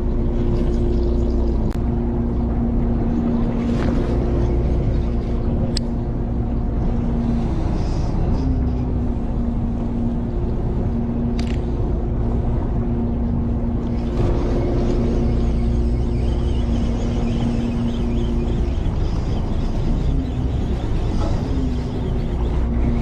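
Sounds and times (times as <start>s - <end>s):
boat engine rumbling: 0.0s - 23.0s
steady hum: 0.0s - 23.0s.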